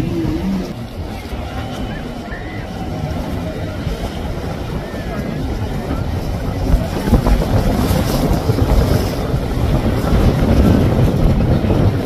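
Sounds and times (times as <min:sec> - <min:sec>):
boat wake rushing through water: 0:00.0 - 0:12.0
outboard motor: 0:00.0 - 0:12.0
wind buffeting microphone: 0:00.0 - 0:12.0.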